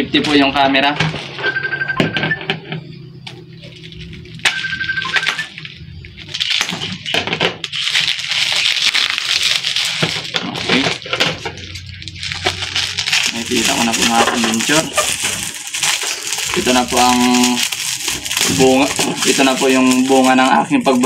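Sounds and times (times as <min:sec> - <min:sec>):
plastic wrap crinkling: 0:03.6 - 0:21.0.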